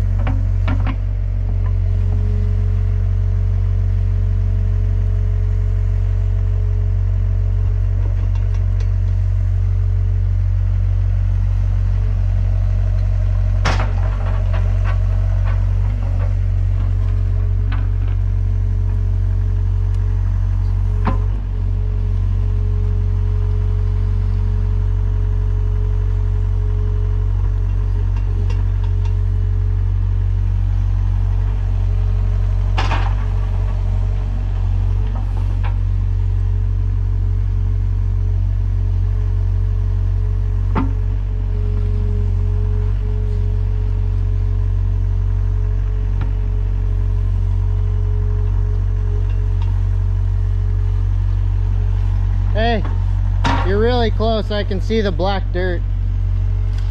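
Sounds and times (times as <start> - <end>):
excavator diesel engine humming: 0.0 - 56.9.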